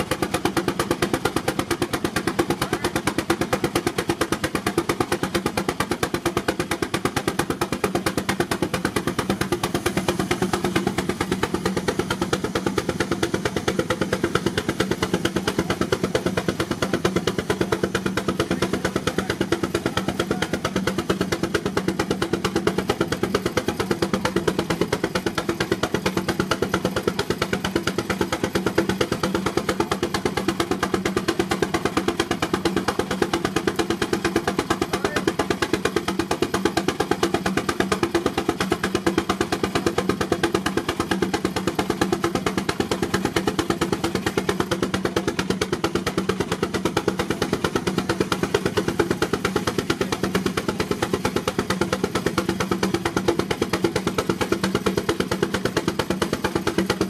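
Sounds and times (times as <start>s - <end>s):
steam engine exhaust beats: 0.0s - 57.0s.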